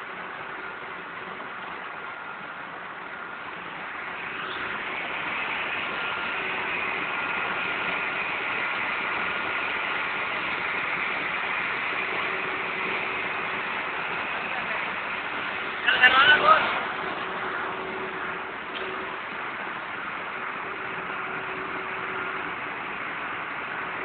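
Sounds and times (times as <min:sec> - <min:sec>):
faint steady tones: 0:00.0 - 0:24.0
machinery hissing drone: 0:02.8 - 0:24.0.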